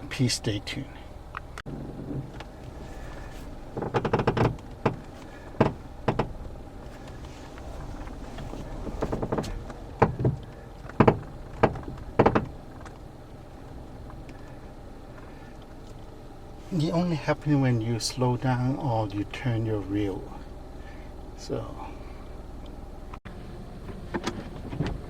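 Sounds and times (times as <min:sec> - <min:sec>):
car rumble: 0:00.0 - 0:25.0
suspension clunks and rattling knocks: 0:01.1 - 0:16.9, 0:19.2 - 0:25.0.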